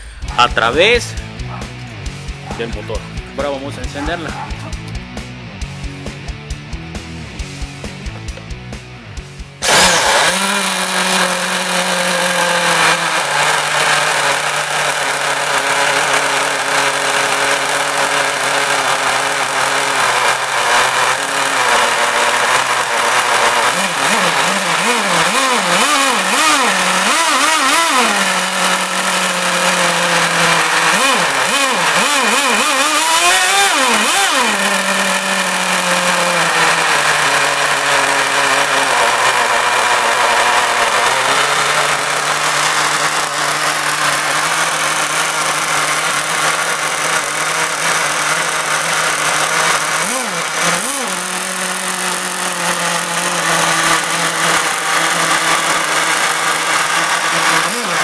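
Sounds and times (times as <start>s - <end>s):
small nitro engine idling and revving: 0.0s - 58.0s.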